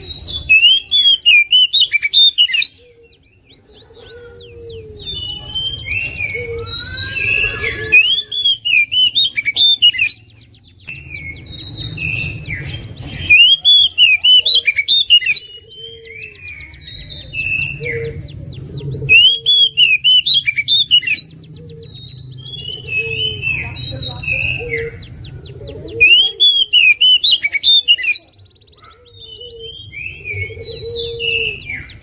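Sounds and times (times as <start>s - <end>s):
bird singing: 0.0s - 32.0s.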